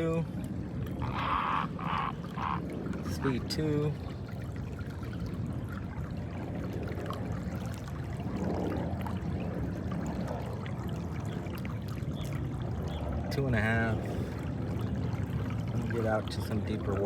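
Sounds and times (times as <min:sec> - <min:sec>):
steady low rumble: 0:00.0 - 0:17.0
water trickling along a hull: 0:00.0 - 0:17.0.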